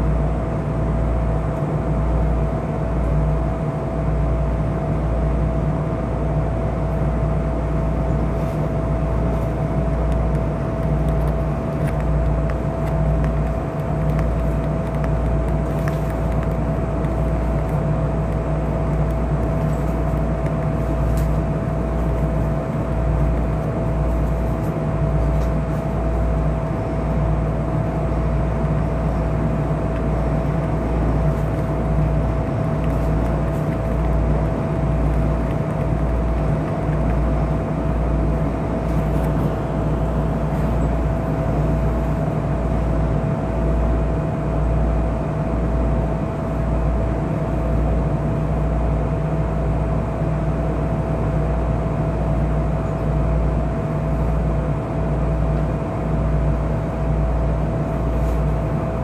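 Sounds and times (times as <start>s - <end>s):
low pulsing rumble: 0.0s - 59.0s
train hum and whine: 0.0s - 59.0s.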